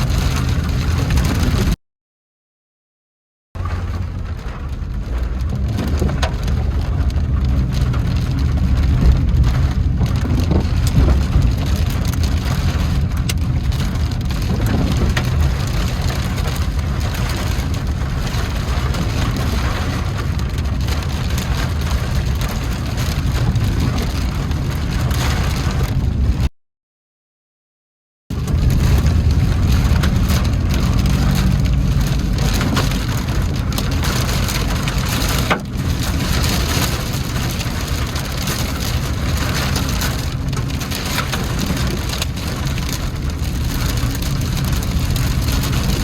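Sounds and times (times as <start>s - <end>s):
car and road rumble: 0.0s - 1.8s, 3.6s - 26.5s, 28.3s - 46.0s
heavy rain drumming on a car: 0.0s - 1.8s, 3.6s - 26.5s, 28.3s - 46.0s.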